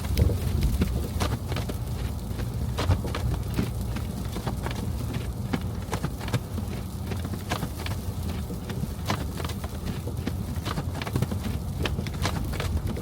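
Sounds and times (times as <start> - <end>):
low road rumble: 0.0 - 13.0
sharp clicks and knocks: 0.0 - 13.0.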